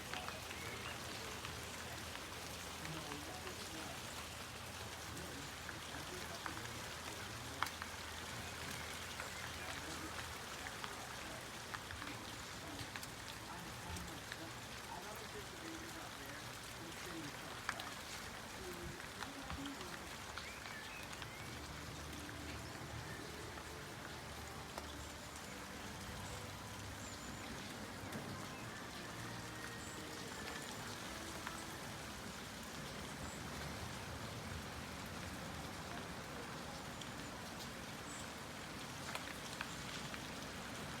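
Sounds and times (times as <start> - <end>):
sharp ticks of raindrops: 0.0 - 41.0
steady rain falling: 0.0 - 41.0.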